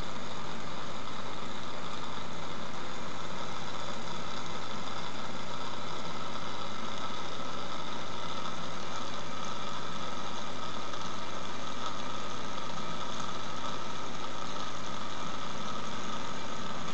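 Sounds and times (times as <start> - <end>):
constant hiss: 0.0 - 16.9
low machine hum: 0.0 - 16.9.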